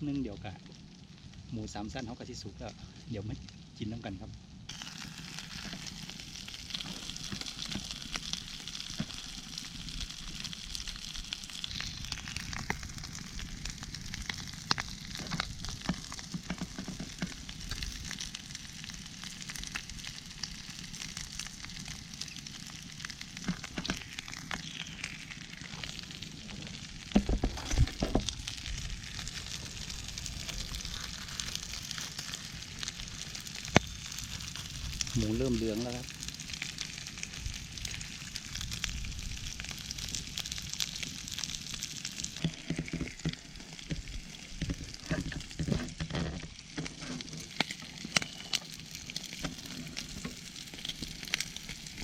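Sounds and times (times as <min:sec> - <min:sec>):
crackles and pops: 0:00.0 - 0:52.0
meat sizzling over a fire: 0:00.0 - 0:52.0.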